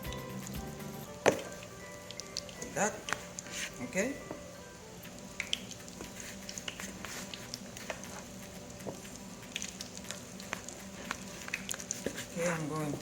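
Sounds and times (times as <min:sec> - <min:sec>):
chicken frying in hot oil: 0:00.0 - 0:13.0
crackles and pops of frying: 0:00.0 - 0:13.0.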